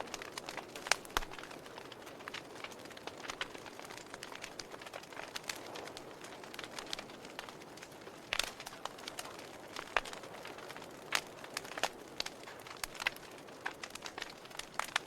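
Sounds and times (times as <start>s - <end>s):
campfire wood crackling and popping: 0.0s - 15.0s
soft hiss of flame: 0.0s - 15.0s.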